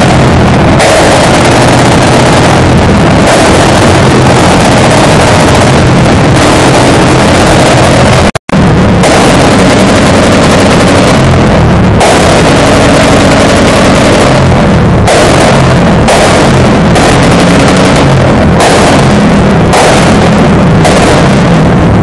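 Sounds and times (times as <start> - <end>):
motorcycle engine revving loudly: 0.0 - 22.0.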